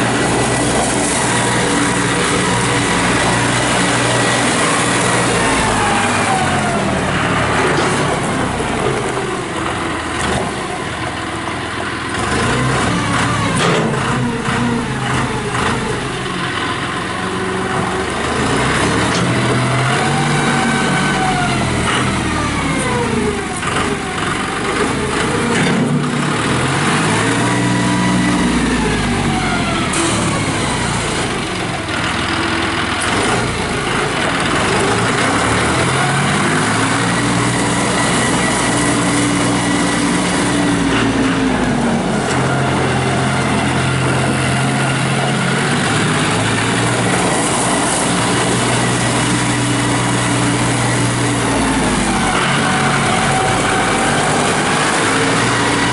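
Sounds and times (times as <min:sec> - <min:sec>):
tractor diesel engine revving: 0:00.0 - 0:55.9.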